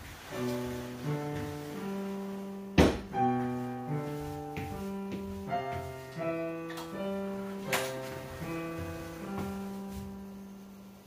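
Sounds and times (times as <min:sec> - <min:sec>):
piano playing held notes: 0:00.0 - 0:11.0.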